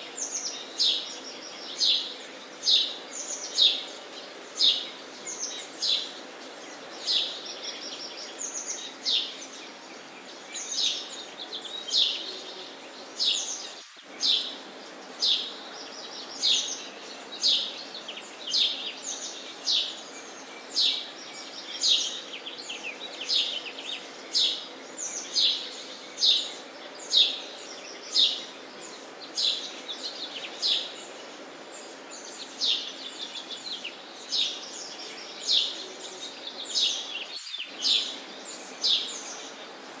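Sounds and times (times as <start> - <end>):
sparrows chirping: 0.0 - 40.0
steady low background noise: 0.0 - 40.0.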